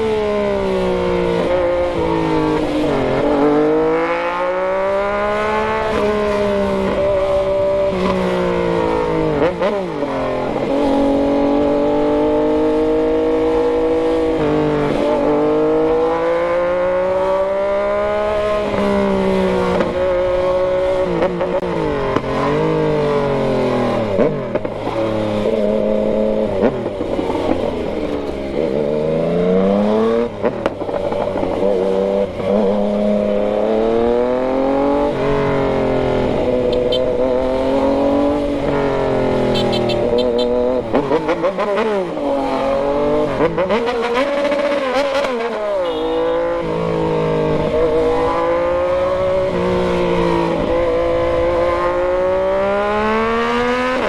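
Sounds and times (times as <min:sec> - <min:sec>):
motorcycle engine revving through gears: 0:00.0 - 0:54.0.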